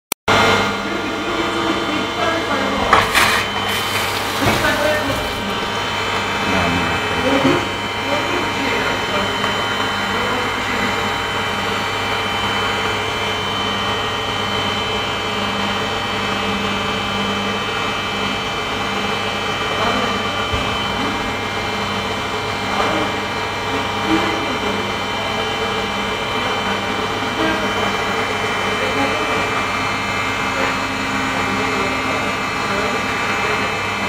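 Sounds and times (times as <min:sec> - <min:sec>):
steady mechanical hum: 0:00.3 - 0:34.0.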